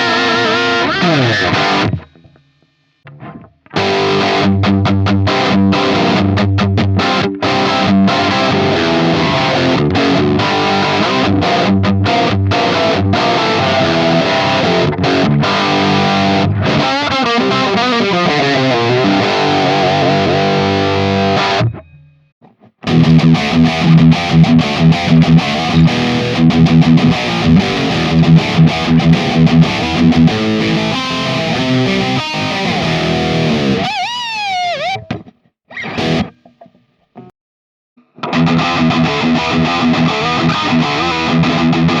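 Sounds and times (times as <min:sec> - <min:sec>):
distorted electric guitar riff: 0:00.0 - 0:37.3, 0:38.0 - 0:42.0.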